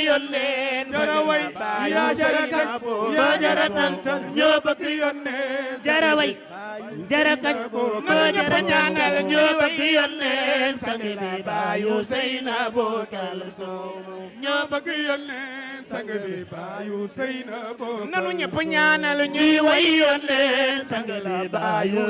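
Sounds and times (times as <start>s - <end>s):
lead voice singing: 0.0s - 22.0s.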